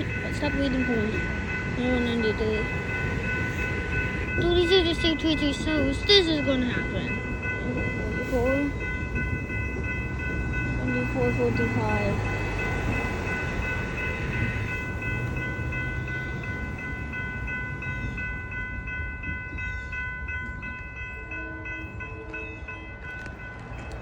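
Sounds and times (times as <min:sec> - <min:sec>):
crossing signal bell ringing: 0:00.0 - 0:24.0
train rumbling: 0:00.0 - 0:24.0.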